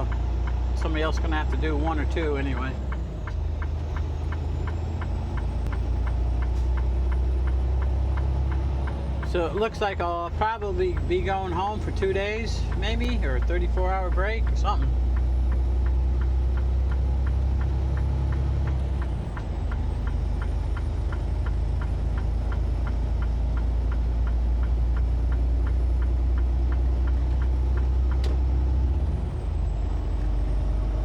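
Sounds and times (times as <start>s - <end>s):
truck engine running: 0.0s - 31.0s
turn signal ticking: 0.0s - 31.0s.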